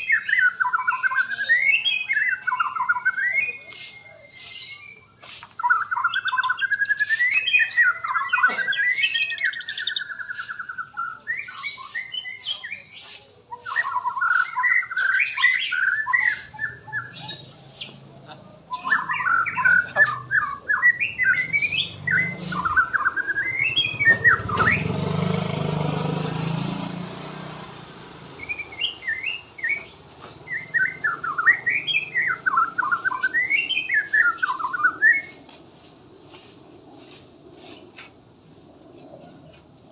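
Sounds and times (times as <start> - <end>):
songbird warbling and whistling: 0.0 - 25.9, 28.2 - 38.1.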